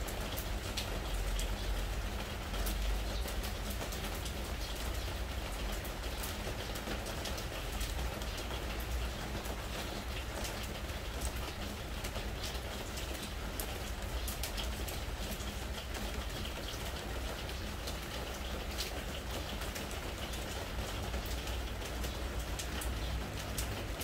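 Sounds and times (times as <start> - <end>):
rain on wooden deck: 0.0 - 24.0.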